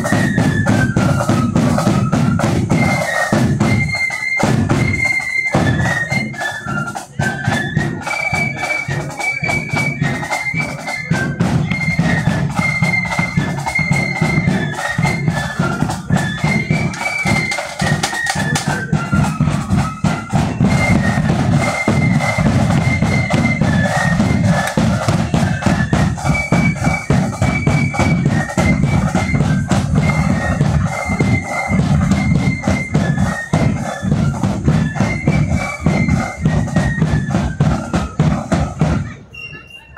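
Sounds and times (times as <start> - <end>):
snare and bass drums beat: 0.0 - 39.1
high flutes melody: 0.0 - 39.9
marching flute band playing: 0.0 - 39.9.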